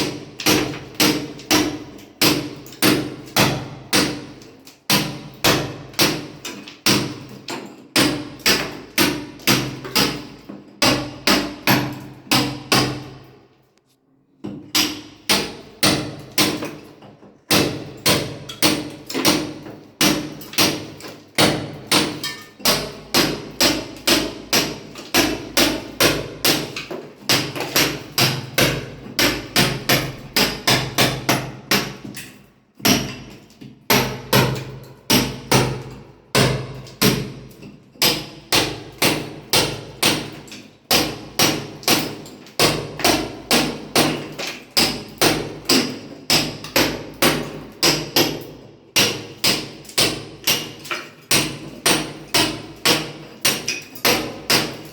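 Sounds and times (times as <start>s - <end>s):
hammer striking masonry: 0.0s - 13.3s, 14.4s - 54.9s.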